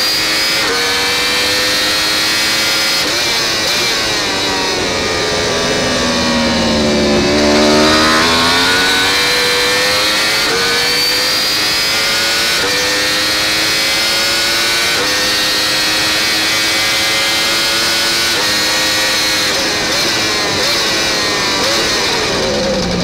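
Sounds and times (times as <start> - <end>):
motorcycle engine at full throttle: 0.0 - 23.0.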